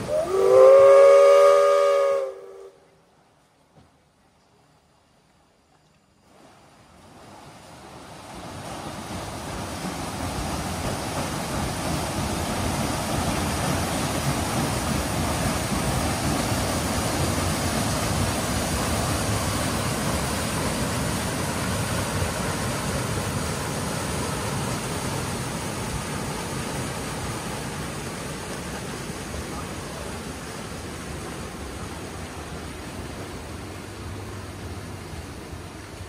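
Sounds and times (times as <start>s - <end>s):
paddle wheels churning water: 0.0s - 36.0s.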